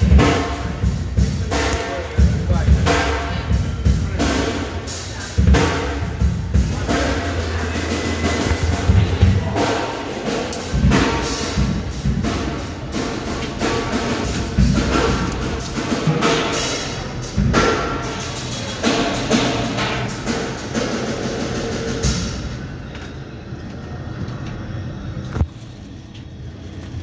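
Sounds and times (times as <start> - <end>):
music with drums and percussion: 0.0 - 22.4.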